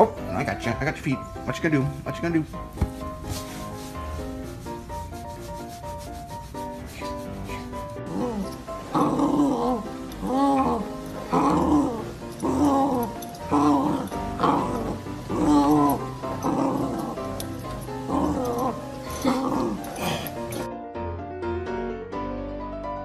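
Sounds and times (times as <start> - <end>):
light background melody: 0.0 - 23.0.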